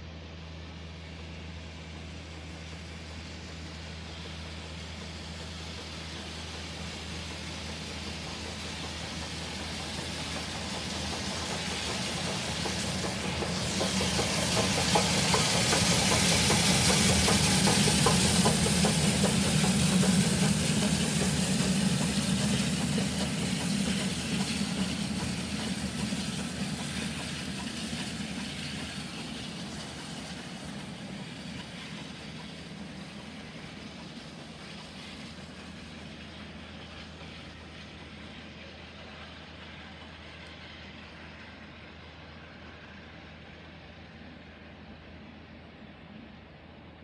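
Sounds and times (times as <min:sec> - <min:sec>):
steam locomotive and coaches passing: 0:00.0 - 0:47.0.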